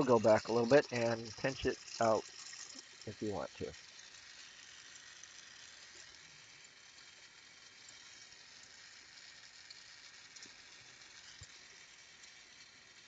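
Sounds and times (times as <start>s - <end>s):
glassworking torch flame hissing: 0.0s - 13.0s.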